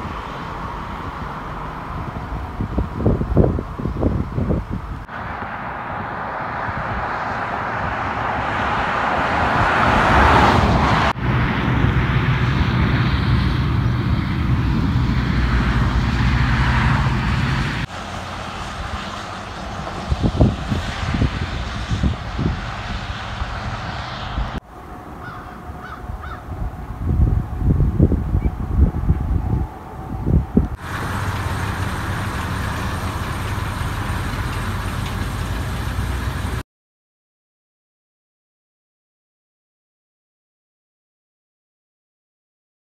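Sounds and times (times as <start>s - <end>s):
low engine rumble: 0.0s - 8.4s, 10.2s - 36.6s
vehicle passing: 0.0s - 27.7s, 28.6s - 36.6s.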